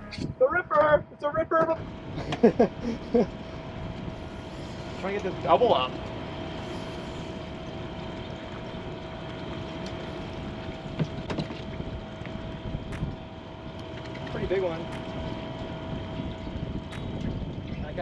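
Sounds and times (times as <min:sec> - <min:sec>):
boat engine hum and hiss: 0:00.5 - 0:18.0.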